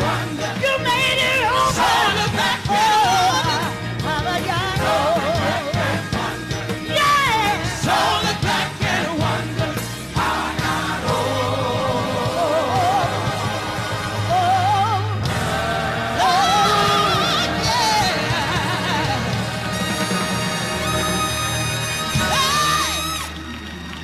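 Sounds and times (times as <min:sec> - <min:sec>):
women singing gospel: 0:00.0 - 0:19.7
instrumental accompaniment: 0:00.0 - 0:24.0.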